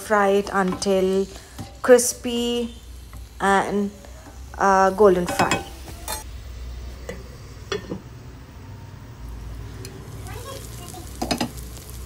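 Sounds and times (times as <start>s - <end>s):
faint oil sizzle: 0.0s - 12.0s.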